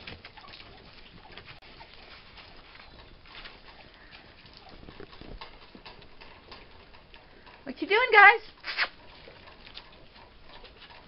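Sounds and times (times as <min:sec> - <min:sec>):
puppies scuffling and clicking: 0:00.0 - 0:11.0.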